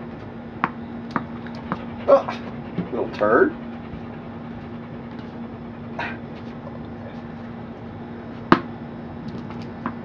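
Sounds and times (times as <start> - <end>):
ball-throwing machine humming: 0.0 - 10.0.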